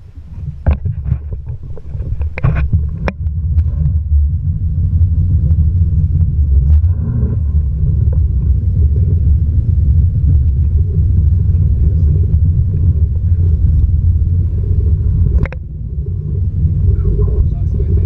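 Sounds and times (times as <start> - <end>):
jetski engine rumble: 0.0 - 18.0.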